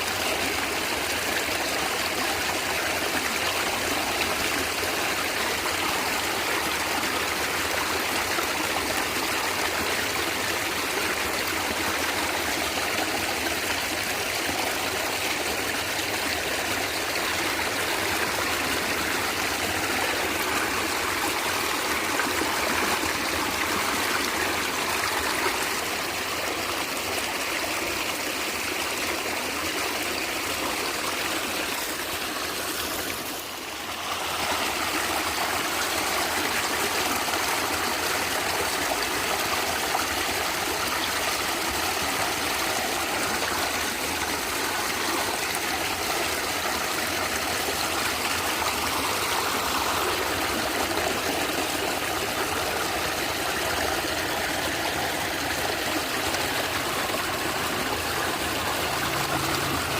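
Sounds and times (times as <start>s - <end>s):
stream gurgling over stones: 0.0s - 59.9s.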